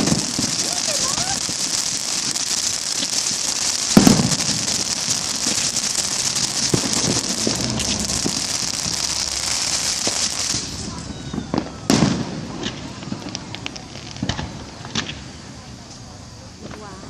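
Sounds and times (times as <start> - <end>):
loud firework bang: 0.0 - 15.3
fireworks crackling and hissing: 0.0 - 17.0.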